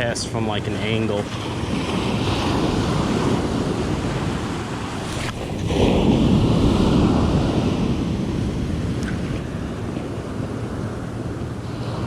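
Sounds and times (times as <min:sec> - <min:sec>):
wind buffeting microphone: 0:00.0 - 0:12.0
surf breaking on beach: 0:00.8 - 0:12.0.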